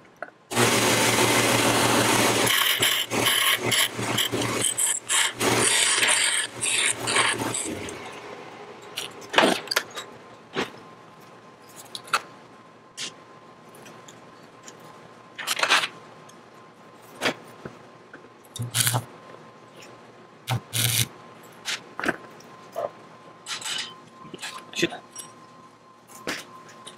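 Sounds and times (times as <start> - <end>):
faint steady hum: 1.5 - 26.9.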